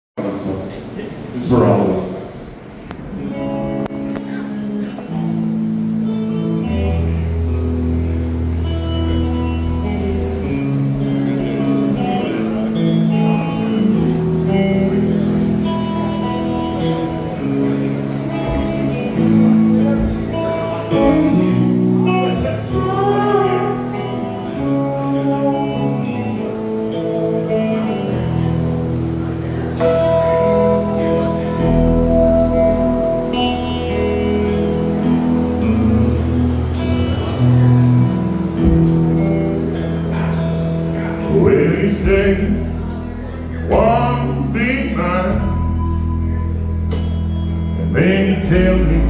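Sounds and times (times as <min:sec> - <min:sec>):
country band playing: 0:02.7 - 0:49.0
guitar chords ringing: 0:02.8 - 0:49.0
deep bass guitar note: 0:03.0 - 0:49.0.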